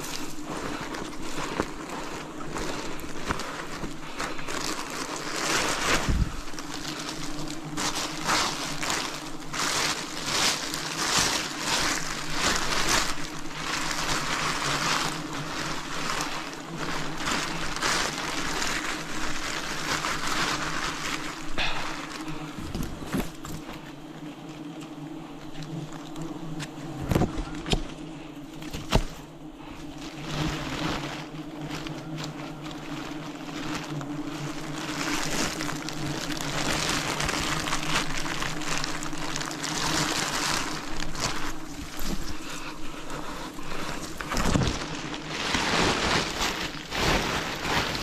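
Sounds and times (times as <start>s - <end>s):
bees buzzing: 0.0s - 48.0s.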